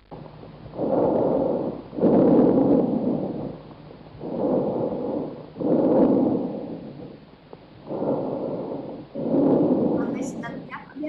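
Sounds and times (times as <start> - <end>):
harsh breaths in and out: 0.1 - 10.8.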